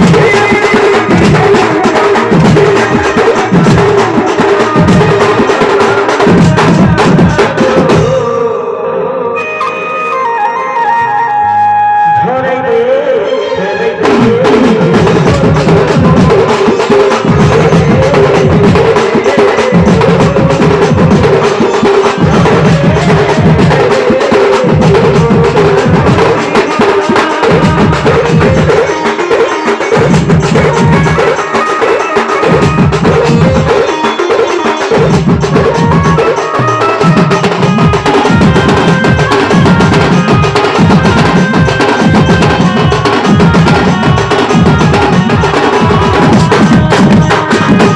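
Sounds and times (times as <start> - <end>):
wood block percussion: 0.0 - 8.3, 14.0 - 47.9
steady drum beat: 0.0 - 8.4, 14.0 - 47.9
held melody line: 9.2 - 47.9.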